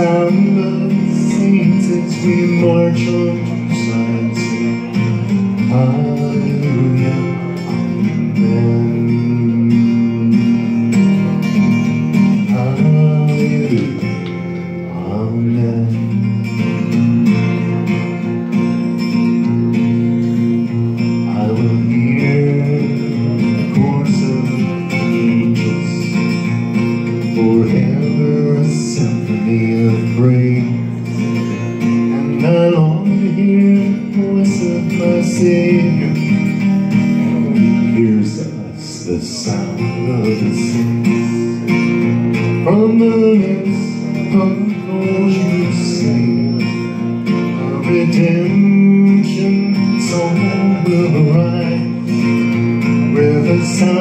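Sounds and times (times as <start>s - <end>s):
man singing: 0.0s - 18.6s, 19.2s - 54.0s
acoustic guitar strumming chords: 0.0s - 54.0s.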